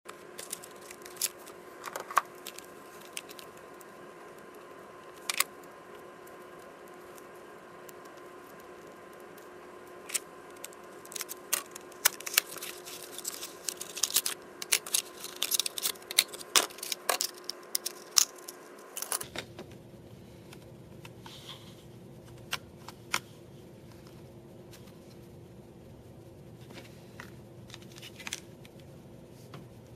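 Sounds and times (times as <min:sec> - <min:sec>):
faint steady hum: 0:00.1 - 0:29.9.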